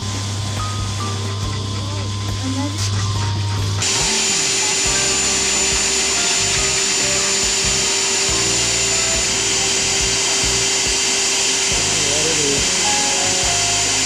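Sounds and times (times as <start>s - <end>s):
dog dryer blowing: 0.0s - 14.0s.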